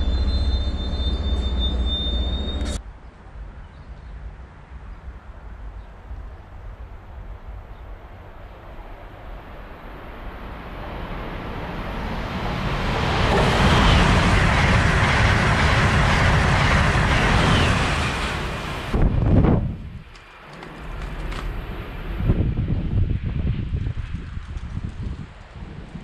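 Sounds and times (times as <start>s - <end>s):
train rumble and wheel noise: 0.0s - 26.0s.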